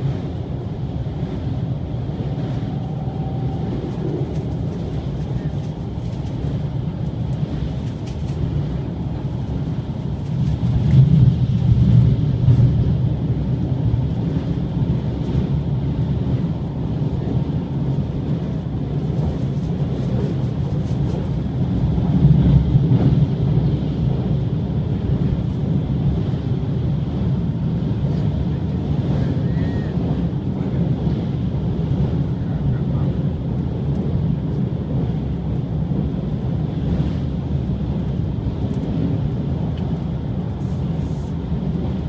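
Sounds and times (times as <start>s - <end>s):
train rumbling over bridge: 0.0s - 42.0s.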